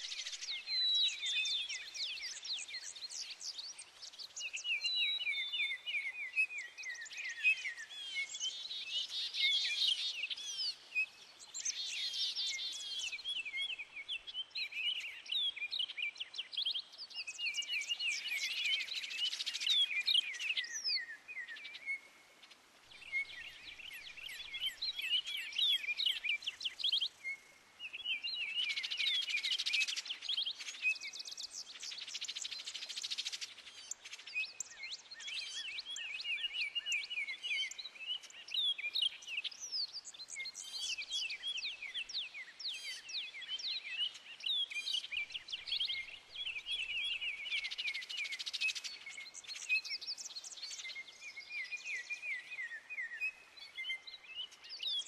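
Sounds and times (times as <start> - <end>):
songbird twittering: 0.0 - 55.0.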